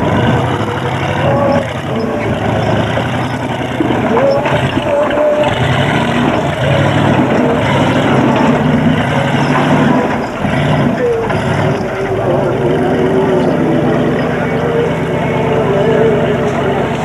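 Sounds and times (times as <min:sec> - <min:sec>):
offroad vehicle engine under load: 0:00.0 - 0:17.0.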